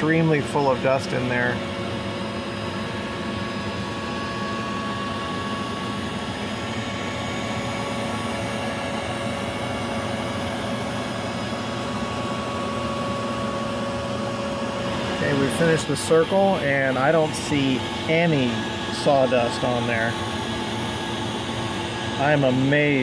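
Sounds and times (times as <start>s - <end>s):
router spindle whine: 0.0s - 23.0s
shop vacuum rushing: 0.0s - 23.0s.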